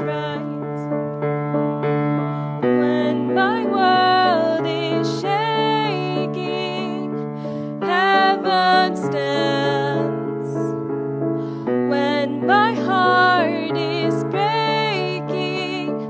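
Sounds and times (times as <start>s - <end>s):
woman singing: 0.0s - 0.9s, 2.6s - 10.7s, 11.8s - 16.0s
grand piano: 0.0s - 16.0s.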